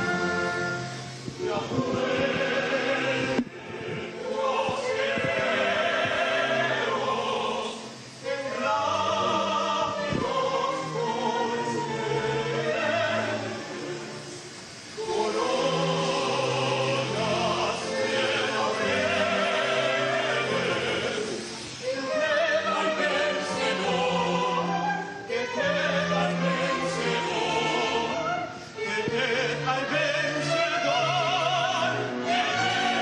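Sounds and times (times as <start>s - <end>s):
choir singing: 0.0s - 33.0s
orchestra sustained notes: 0.0s - 33.0s.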